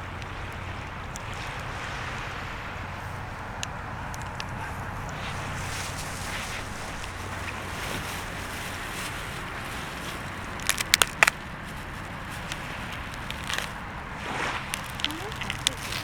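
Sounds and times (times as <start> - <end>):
bonfire crackling: 0.2 - 16.0.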